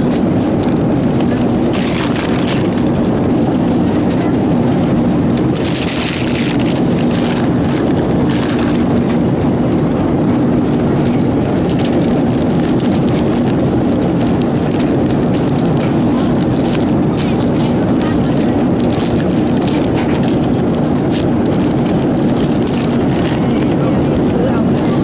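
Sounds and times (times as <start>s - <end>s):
airliner cabin drone: 0.0s - 25.0s
low hum: 0.0s - 25.0s.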